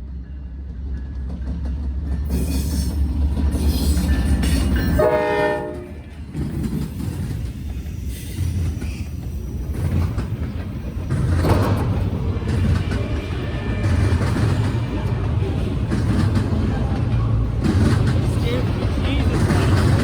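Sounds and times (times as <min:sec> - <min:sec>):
freight train rumbling on rails: 0:00.0 - 0:20.0
train clatter: 0:00.0 - 0:20.0.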